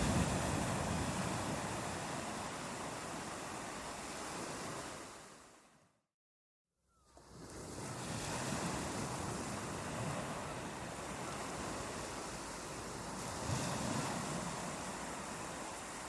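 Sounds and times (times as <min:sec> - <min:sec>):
ocean waves on a beach: 0:00.0 - 0:05.8, 0:07.1 - 0:16.0
wind: 0:00.0 - 0:06.0, 0:06.8 - 0:16.0.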